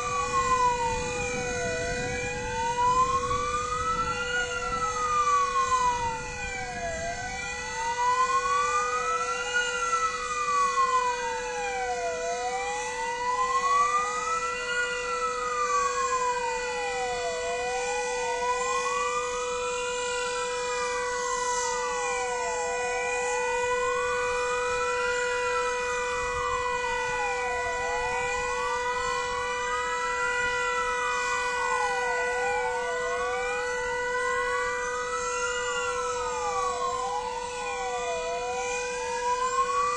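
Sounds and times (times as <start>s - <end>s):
fire engine sirens wailing: 0.0s - 39.9s
steady held siren tone: 0.0s - 39.9s.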